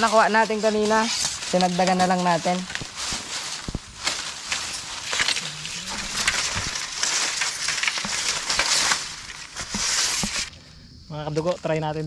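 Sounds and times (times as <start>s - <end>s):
dry leaves rustling and crunching: 0.0s - 10.5s
twigs snapping and crackling: 0.0s - 10.5s.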